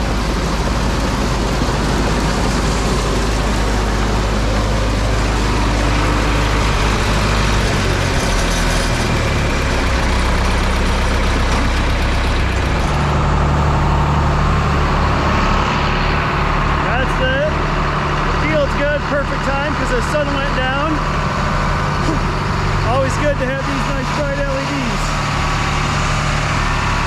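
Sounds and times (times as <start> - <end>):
heavy farm vehicle engine: 0.0 - 27.0.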